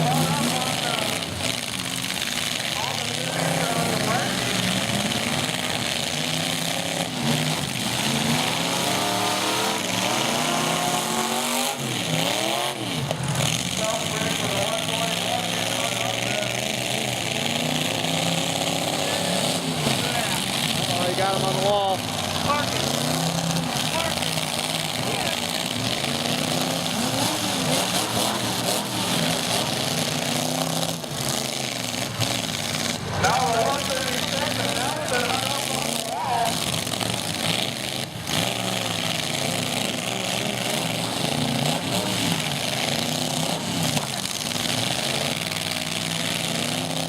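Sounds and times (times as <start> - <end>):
truck engine revving: 0.0 - 47.0
truck engines running: 0.0 - 47.0.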